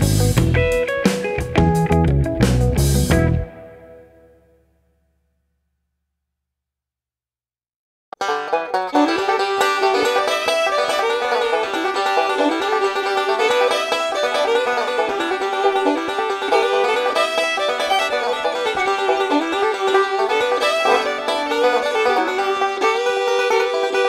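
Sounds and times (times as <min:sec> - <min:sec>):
fast banjo tune: 0:00.0 - 0:03.7, 0:08.2 - 0:24.0.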